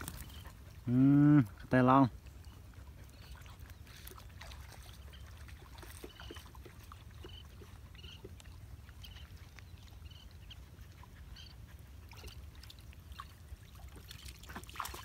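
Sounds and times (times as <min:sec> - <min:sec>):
dogs splashing in water: 0:00.0 - 0:00.9, 0:01.5 - 0:15.0.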